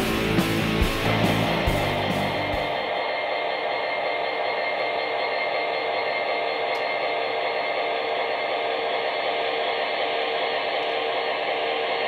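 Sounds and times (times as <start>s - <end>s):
model train diesel engine drone: 0.0s - 12.0s.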